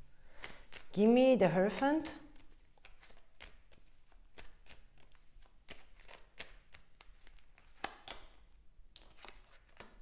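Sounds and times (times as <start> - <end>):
cards being shuffled: 0.3 - 0.9, 1.7 - 8.4, 9.0 - 10.0.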